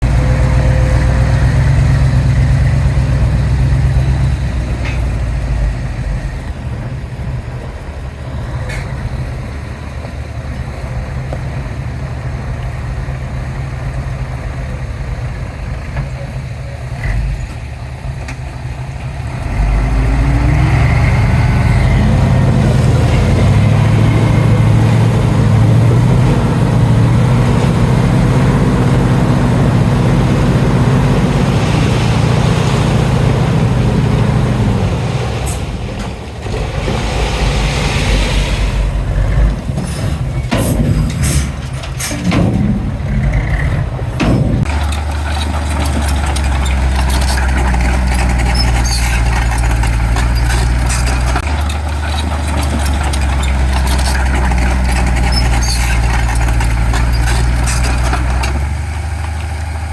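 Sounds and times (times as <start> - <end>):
heavy diesel engines: 0.0 - 59.9.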